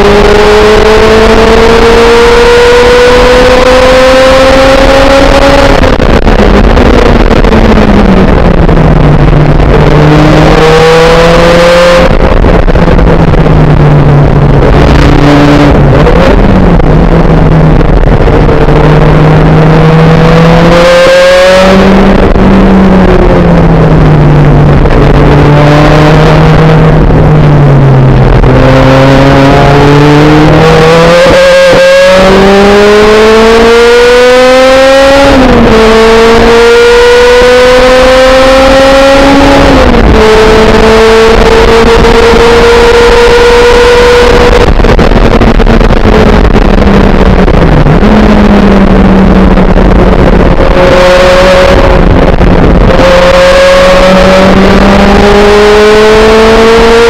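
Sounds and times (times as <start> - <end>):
car engine revving in cabin: 0.0 - 57.0.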